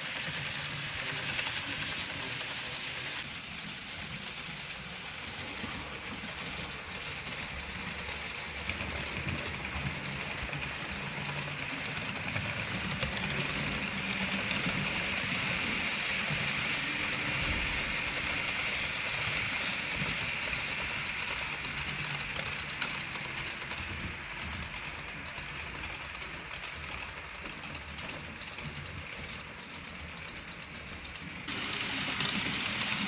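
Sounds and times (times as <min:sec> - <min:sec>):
model train rolling and motor hum: 0:00.0 - 0:33.0.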